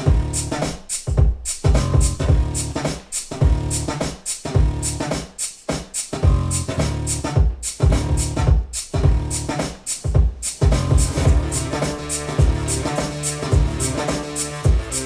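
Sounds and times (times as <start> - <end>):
electronic music with heavy bass: 0.0 - 0.7, 1.6 - 5.2, 6.2 - 9.6, 10.6 - 15.0.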